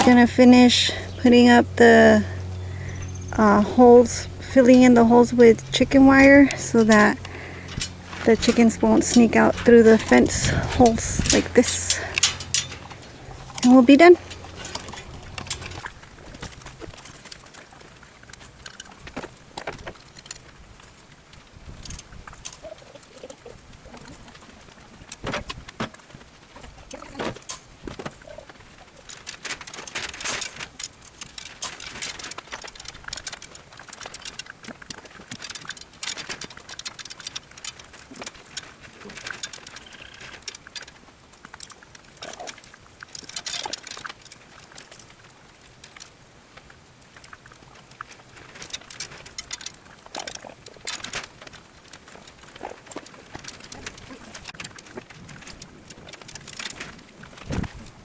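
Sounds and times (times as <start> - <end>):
chicken wire rustling and clicking: 0.0 - 58.0.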